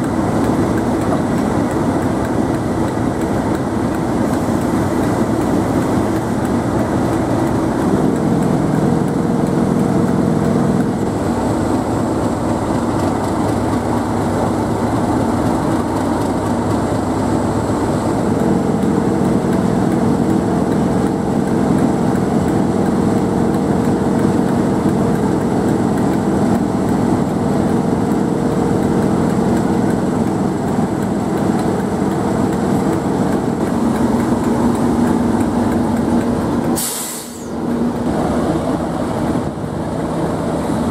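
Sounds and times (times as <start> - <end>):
diesel locomotive engine idling: 0.0 - 40.9.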